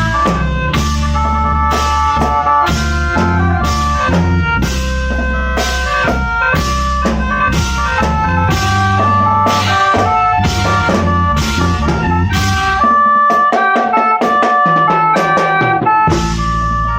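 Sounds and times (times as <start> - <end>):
low bass: 0.0 - 12.9, 16.1 - 16.9
mouth organ chords: 0.0 - 16.9
steady drum beat: 0.0 - 16.9.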